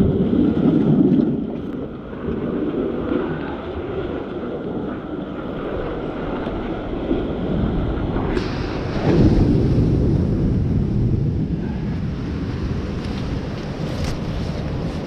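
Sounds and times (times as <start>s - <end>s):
surf washing against rocks: 0.0s - 15.0s
wind buffeting microphone: 0.0s - 15.0s.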